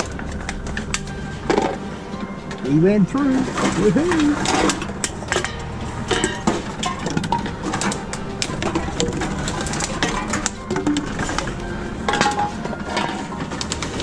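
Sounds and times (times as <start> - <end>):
drink containers clattering: 0.0 - 14.0
machine low hum: 0.0 - 14.0.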